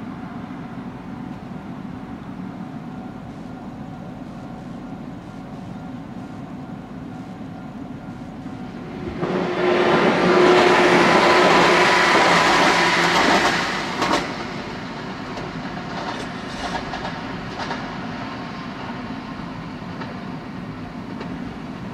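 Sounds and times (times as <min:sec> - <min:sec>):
train passing close by: 0:00.0 - 0:04.2, 0:05.8 - 0:21.9.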